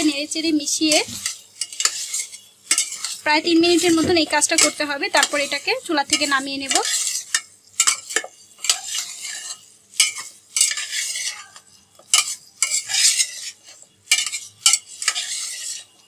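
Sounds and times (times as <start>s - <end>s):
spatula scraping a metal pot: 0.0s - 16.0s.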